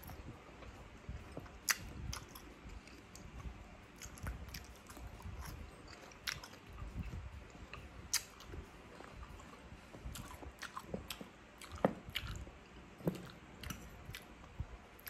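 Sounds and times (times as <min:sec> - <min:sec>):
person chewing: 0:01.3 - 0:14.3.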